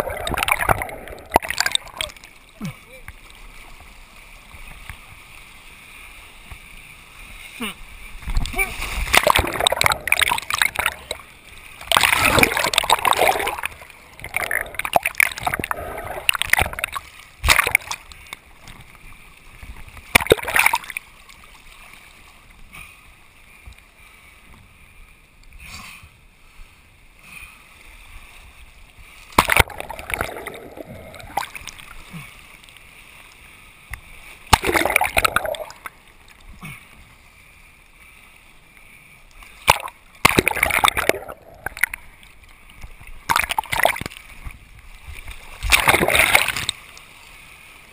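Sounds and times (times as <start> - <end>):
seawater splashing and surging: 0.0 - 47.9.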